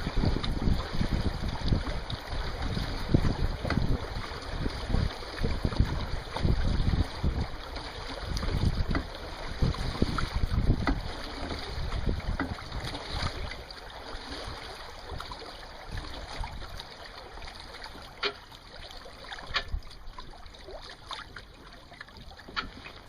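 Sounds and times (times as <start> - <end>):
wind rumble on microphone: 0.0 - 18.3, 19.2 - 23.0
water sloshing against boat hull: 0.0 - 23.0.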